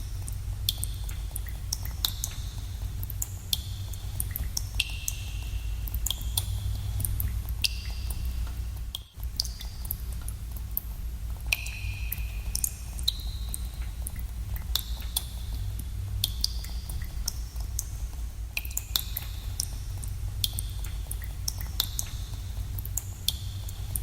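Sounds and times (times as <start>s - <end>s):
water drops plinking into pools: 0.0s - 10.4s, 11.5s - 15.6s, 18.6s - 24.0s.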